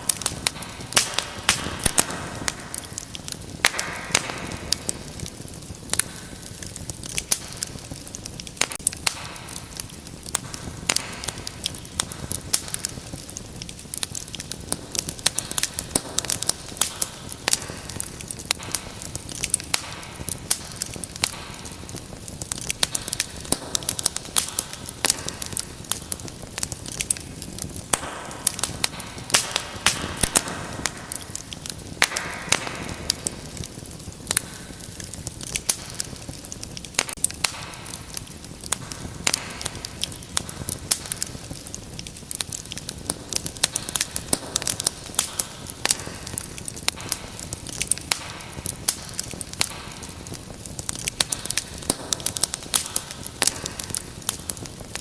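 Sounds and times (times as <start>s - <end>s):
fire pops and snaps: 0.0s - 55.0s
low rumble of flame: 0.0s - 55.0s
wood fire crackling: 0.0s - 55.0s.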